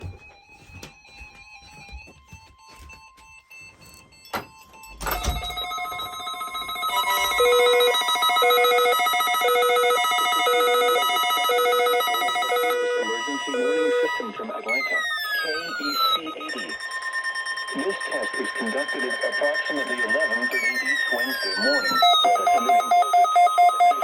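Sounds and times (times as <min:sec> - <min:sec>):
steady alarm tone: 0:00.0 - 0:24.0
lower repeating beep: 0:04.3 - 0:24.0.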